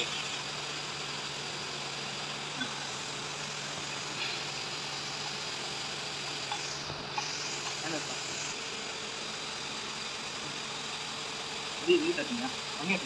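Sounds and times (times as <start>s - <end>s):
broad hiss: 0.0s - 13.0s.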